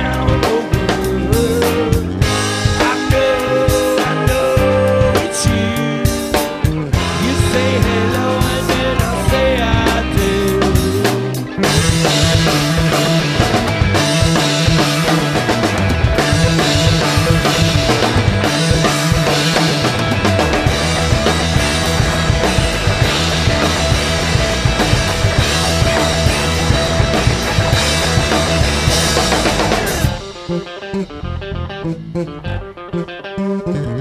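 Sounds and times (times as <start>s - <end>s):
quiet guitar line: 0.0s - 34.0s
rock band playing: 0.0s - 34.0s.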